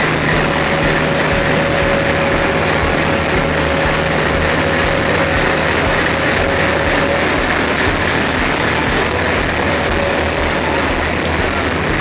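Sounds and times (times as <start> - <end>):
diesel locomotive engine rumbling: 0.0 - 12.0
steady high tone: 0.0 - 12.0.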